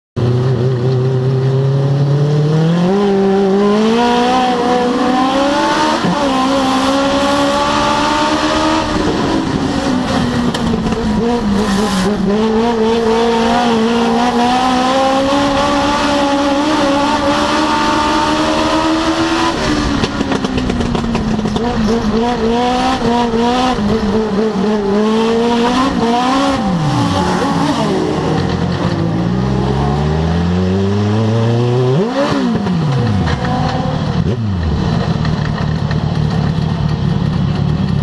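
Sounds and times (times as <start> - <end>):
race car engine revving: 0.2 - 38.0.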